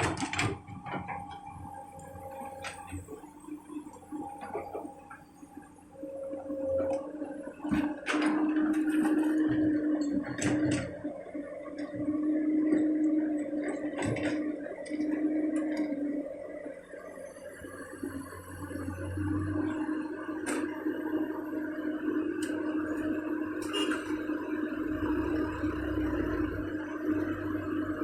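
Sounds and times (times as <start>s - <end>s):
excavator engine and hydraulics hum: 0.0s - 28.0s.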